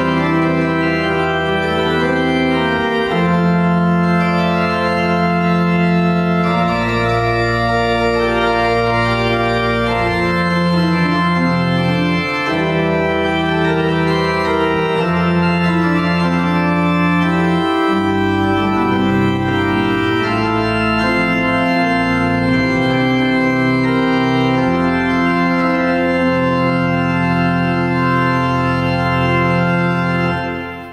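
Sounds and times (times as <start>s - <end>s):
pipe organ chords: 0.0s - 30.9s.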